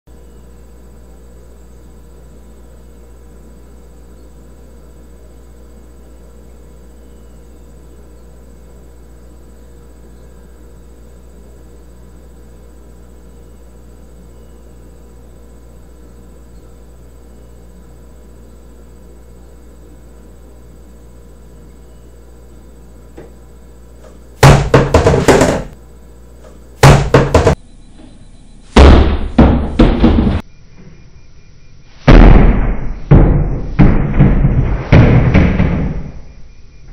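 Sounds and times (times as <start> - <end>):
steady low hum: 0.1 - 36.9.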